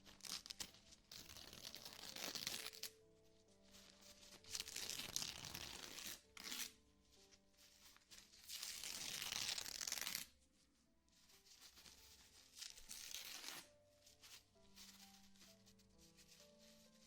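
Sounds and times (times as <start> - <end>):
soft sustained music notes: 0.0 - 9.0, 10.3 - 17.0
close rustling and rubbing: 0.0 - 17.0.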